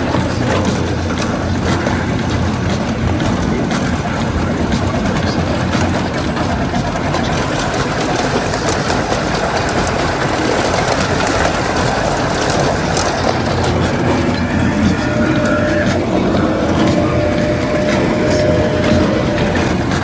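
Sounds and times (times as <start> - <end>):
rapid clicking and rattling: 0.0 - 20.0
train wheels rumbling on rail: 0.0 - 20.0.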